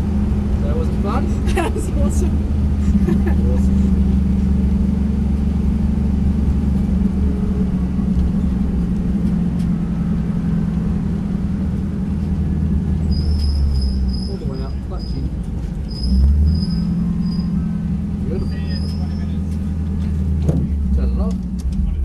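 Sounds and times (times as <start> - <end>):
race car engine rumbling: 0.0 - 22.0.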